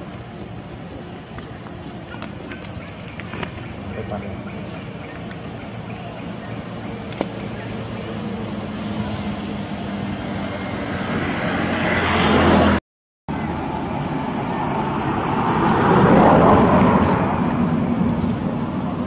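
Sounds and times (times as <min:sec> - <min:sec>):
passing vehicle engine: 0:03.3 - 0:19.0.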